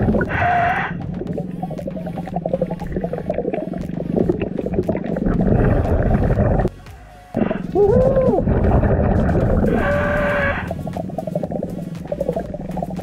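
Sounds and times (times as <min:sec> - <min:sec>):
exhaled bubbles rumbling: 0:00.0 - 0:06.7, 0:07.4 - 0:13.0
warbling tone: 0:00.0 - 0:06.7, 0:07.4 - 0:13.0.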